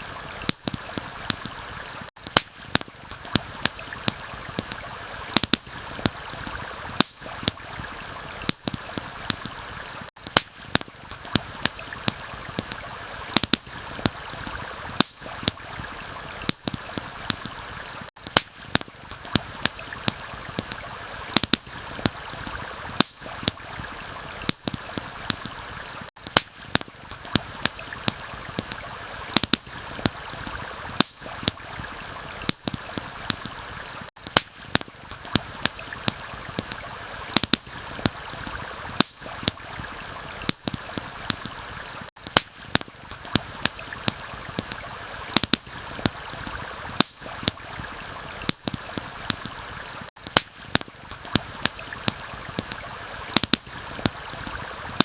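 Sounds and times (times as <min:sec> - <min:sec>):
campfire crackling and popping: 0:00.0 - 0:55.0
rain: 0:00.0 - 0:55.0
stream running water: 0:00.0 - 0:55.0.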